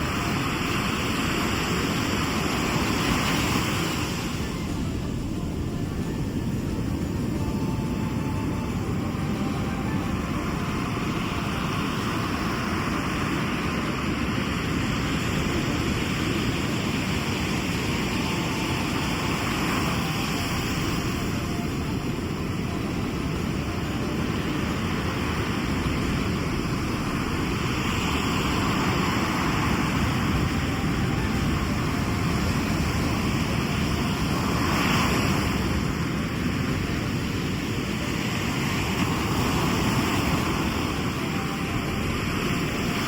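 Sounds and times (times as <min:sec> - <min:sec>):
sea surf washing on shore: 0:00.0 - 0:43.0.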